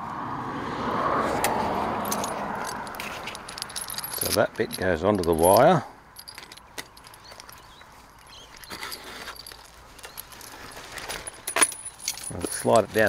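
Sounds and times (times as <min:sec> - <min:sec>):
chain and clamp clicks and rattles: 0:02.0 - 0:13.0.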